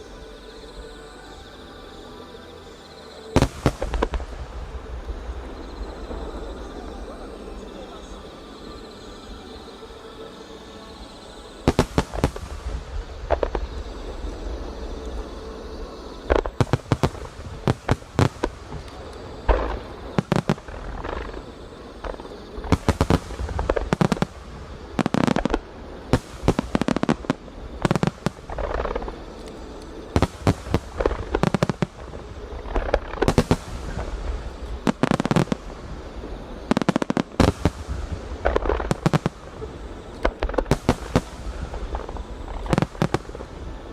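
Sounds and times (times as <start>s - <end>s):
fireworks bursting: 3.3s - 8.8s, 11.2s - 43.9s.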